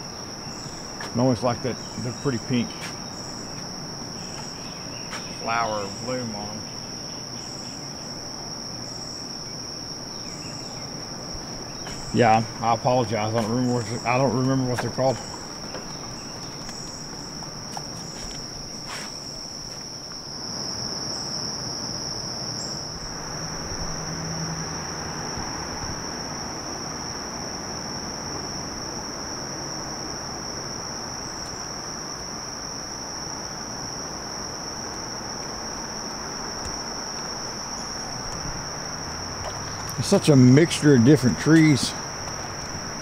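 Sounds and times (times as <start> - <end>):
insects chorus: 0.0 - 43.0.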